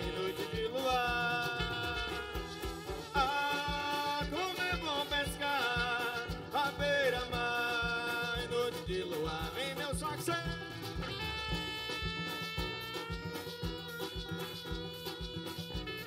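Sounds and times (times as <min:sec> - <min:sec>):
drums steady beat: 0:00.0 - 0:16.0
sliding lead melody: 0:00.0 - 0:16.0.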